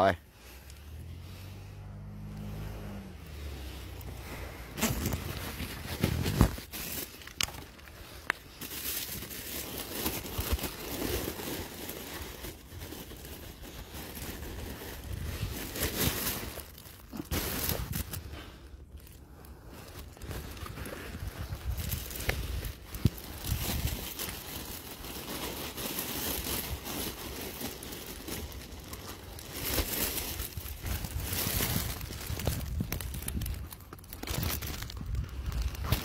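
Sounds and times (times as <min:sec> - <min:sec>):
rustling and crinkling handling: 0:00.0 - 0:36.0.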